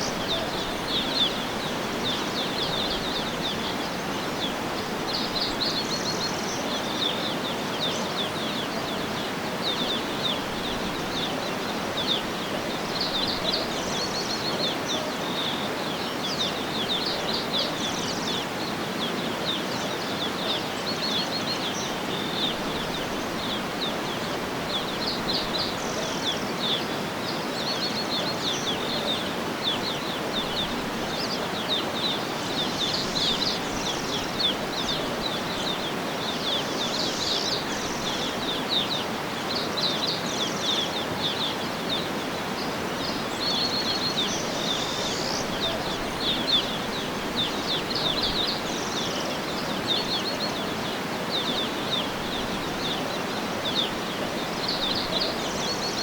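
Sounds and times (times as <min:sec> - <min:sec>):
outdoor ambience hiss: 0:00.0 - 0:56.0
small birds chirping: 0:00.0 - 0:56.0.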